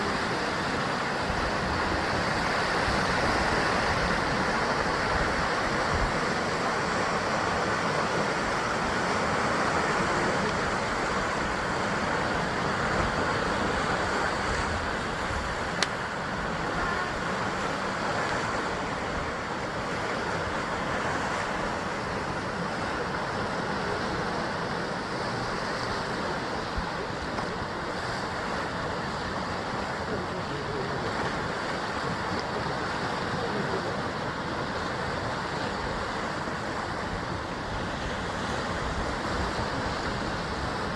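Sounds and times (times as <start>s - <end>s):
ocean waves breaking on rocks: 0.0s - 40.9s.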